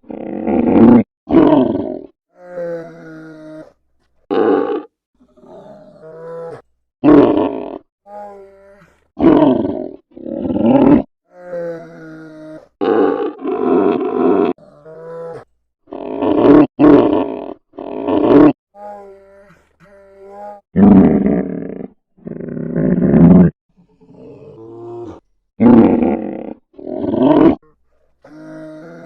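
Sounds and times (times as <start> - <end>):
polar bear grunting: 0.0 - 29.0.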